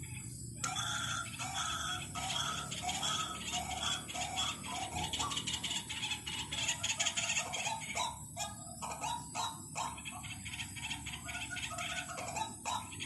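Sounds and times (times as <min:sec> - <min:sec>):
waterhen calls: 0:00.1 - 0:13.0.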